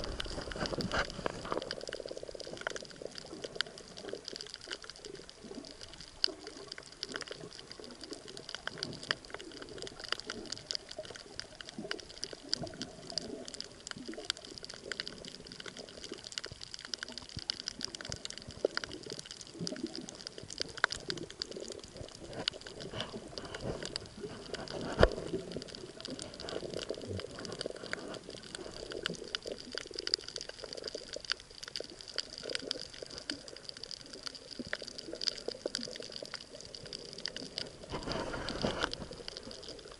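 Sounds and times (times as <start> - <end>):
low watery murmur: 0.0 - 39.9
snapping shrimp crackle: 0.0 - 39.9.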